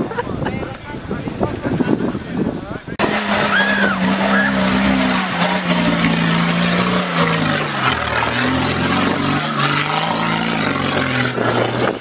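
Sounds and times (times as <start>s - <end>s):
off-road vehicle engine working hard: 0.0s - 12.0s.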